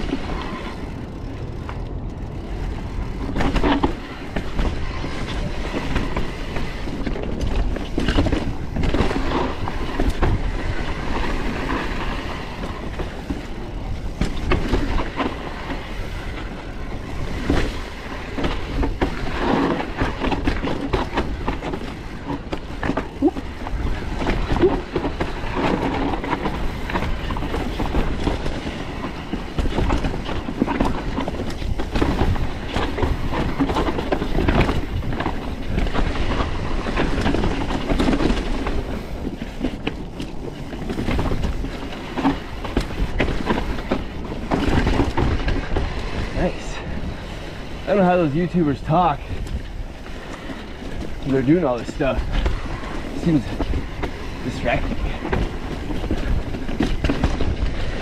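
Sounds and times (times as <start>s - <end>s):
mountain bike rattling over rocks: 0.0s - 58.0s.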